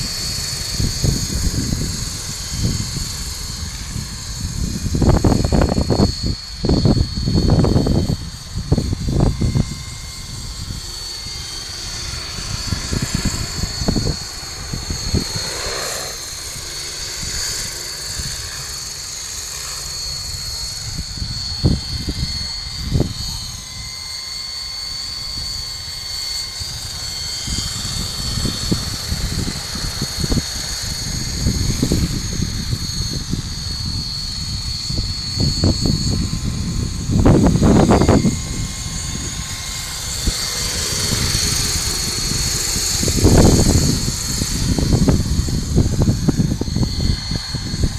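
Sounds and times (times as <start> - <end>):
model helicopter motor whine: 0.0 - 47.9
rotor noise: 0.0 - 47.9.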